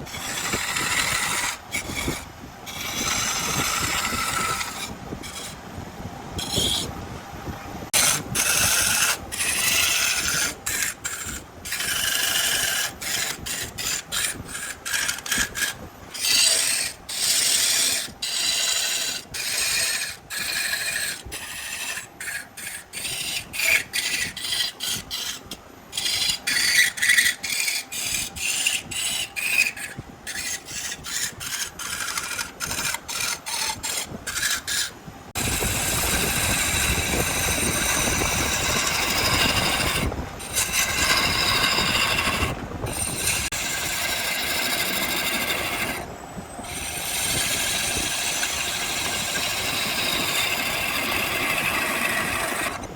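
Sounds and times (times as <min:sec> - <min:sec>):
lathe tool rasping on wood: 0:00.0 - 0:05.6, 0:06.4 - 0:07.0, 0:07.9 - 0:52.9.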